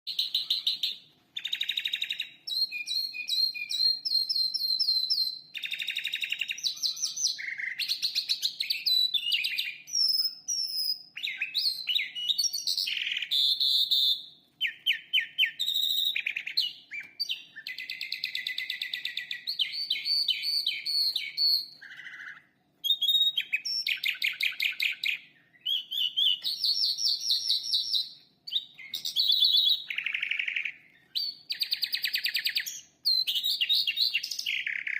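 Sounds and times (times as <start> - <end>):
lark singing trills: 0.1 - 13.9, 14.6 - 34.9.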